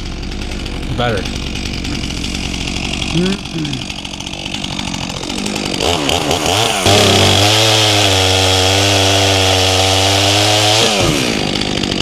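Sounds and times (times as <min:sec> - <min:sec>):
chainsaw revving and cutting log: 0:00.0 - 0:12.0.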